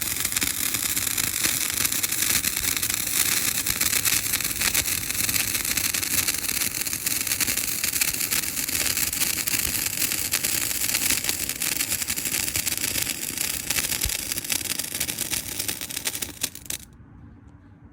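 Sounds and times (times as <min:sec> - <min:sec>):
sparkler crackling: 0:00.0 - 0:16.8.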